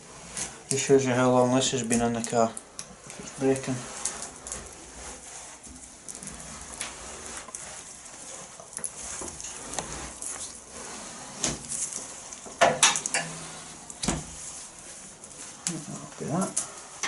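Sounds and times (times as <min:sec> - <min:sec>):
rubber trim cracking and scraping: 0:00.2 - 0:16.7.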